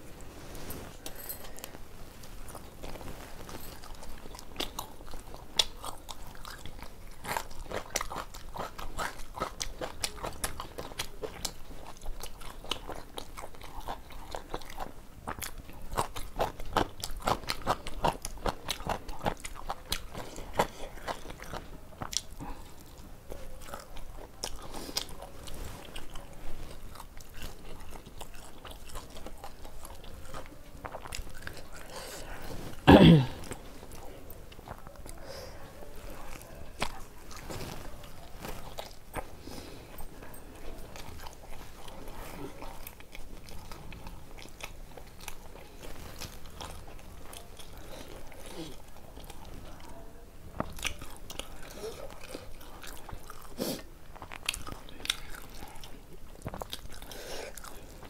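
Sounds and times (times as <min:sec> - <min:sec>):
close-miked chewing: 0:00.0 - 0:58.0.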